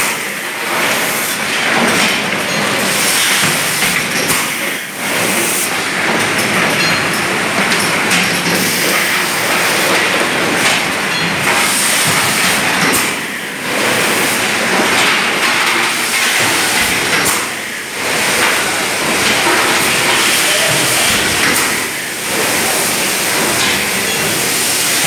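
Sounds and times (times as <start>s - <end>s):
bottling machinery clatter with hiss: 0.0s - 25.0s.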